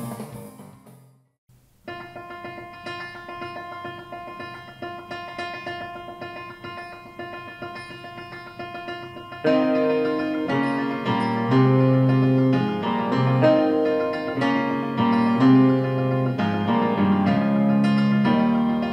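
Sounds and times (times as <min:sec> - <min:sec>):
piano chords: 0:01.9 - 0:18.9.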